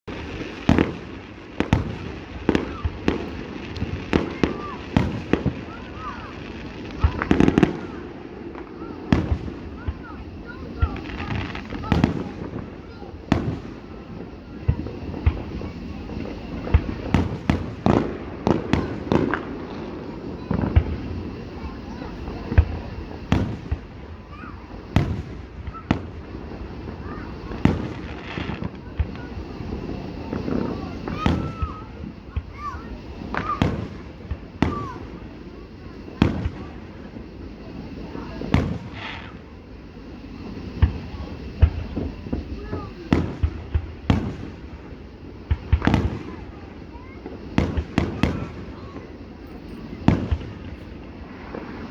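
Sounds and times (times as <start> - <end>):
fireworks bangs: 0.1 - 51.9
fireworks crackle: 0.1 - 51.9.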